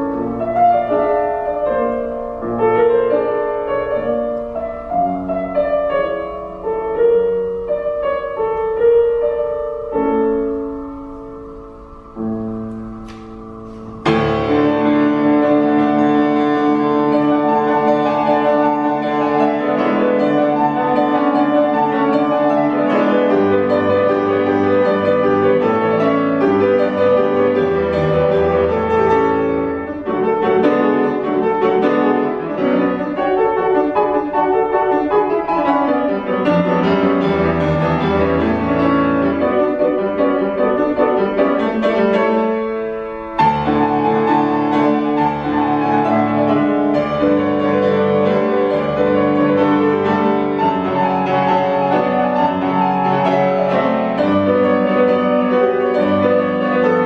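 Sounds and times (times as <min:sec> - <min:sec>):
solo piano folk dance piece: 0:00.0 - 0:57.0.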